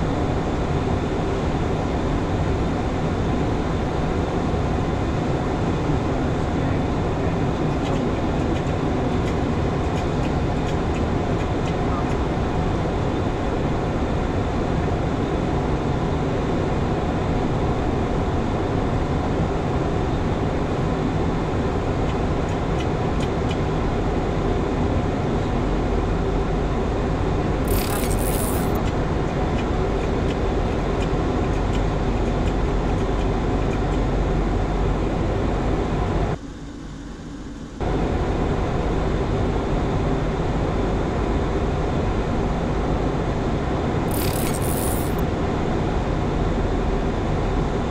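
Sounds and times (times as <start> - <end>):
airflow rush with engine hum: 0.0 - 47.9.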